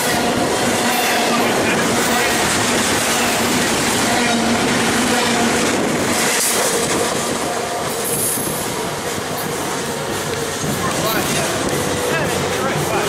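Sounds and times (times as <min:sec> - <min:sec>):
steel wheels on rail: 0:00.0 - 0:13.0.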